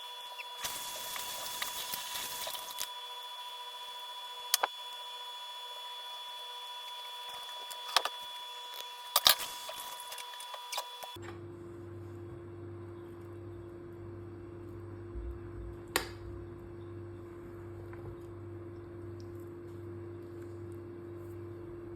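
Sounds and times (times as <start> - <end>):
faint steady whine: 0.0 - 21.9.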